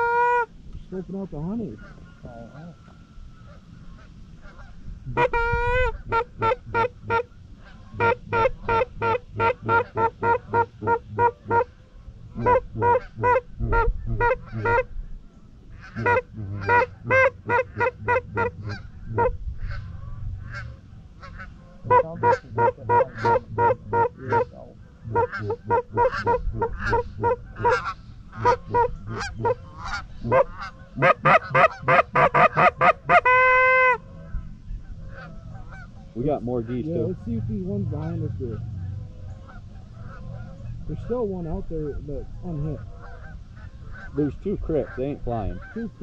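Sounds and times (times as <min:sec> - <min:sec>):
goose calls honking: 0:00.0 - 0:00.5, 0:01.4 - 0:15.0, 0:15.7 - 0:46.0.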